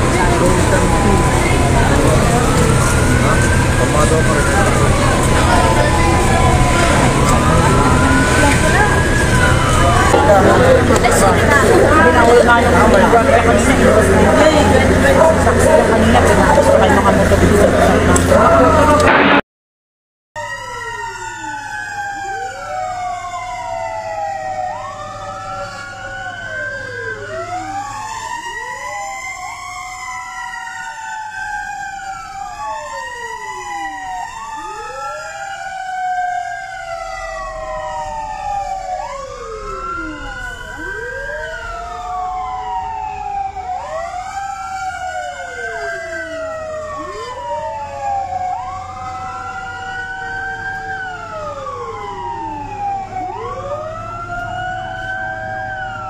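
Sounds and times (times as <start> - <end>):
fire truck sirens wailing: 0.0 - 19.4, 20.4 - 56.0.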